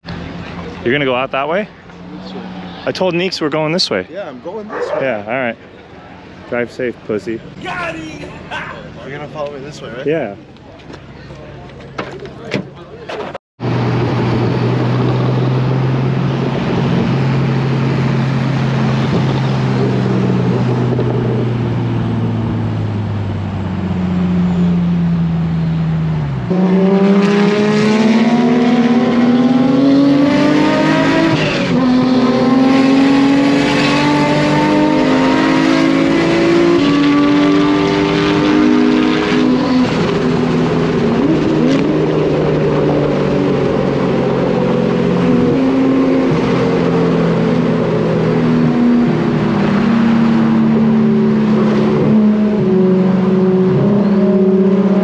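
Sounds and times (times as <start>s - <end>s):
car engine accelerating and upshifting: 0.0s - 7.4s, 13.6s - 55.0s.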